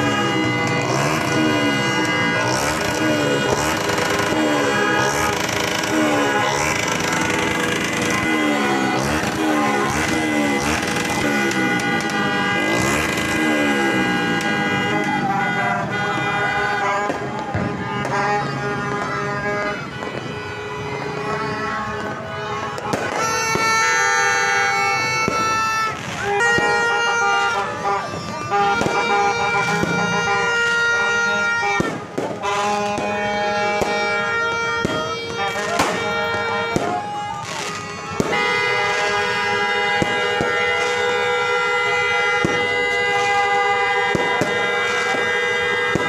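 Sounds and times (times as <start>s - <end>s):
fireworks crackling and banging: 0.0s - 46.0s
long horn blasts: 0.0s - 46.0s.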